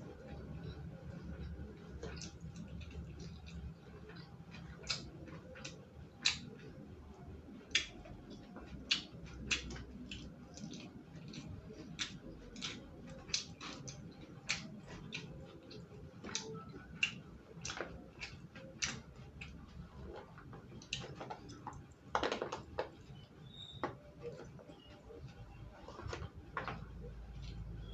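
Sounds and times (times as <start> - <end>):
crunchy chewing of raw vegetables: 0.0 - 27.9.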